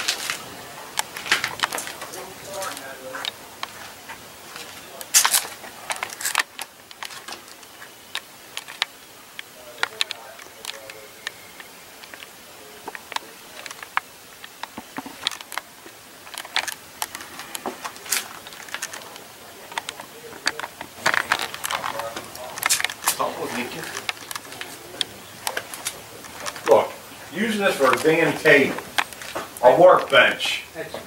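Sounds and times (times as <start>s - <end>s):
murmured voices: 0.0s - 31.0s.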